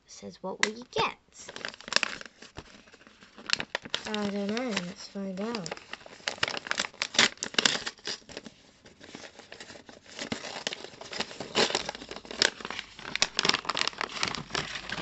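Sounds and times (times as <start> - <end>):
paper bag crinkling and tearing: 0.7 - 15.0.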